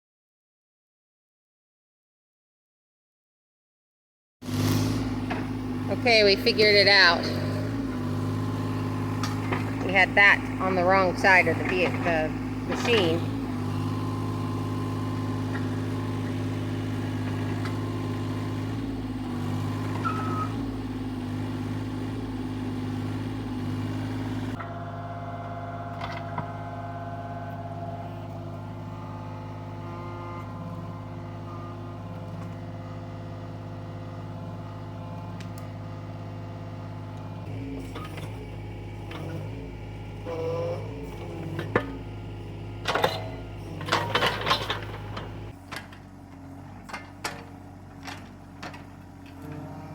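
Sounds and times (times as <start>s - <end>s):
excavator engine running: 4.4s - 49.9s.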